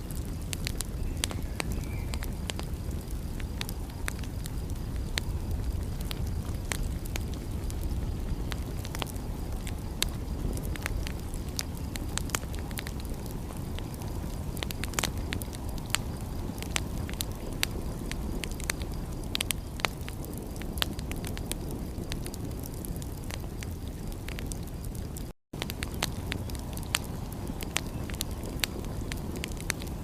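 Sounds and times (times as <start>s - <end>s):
steady low rumble: 0.0s - 25.0s
wood fire crackling and popping: 0.0s - 30.0s.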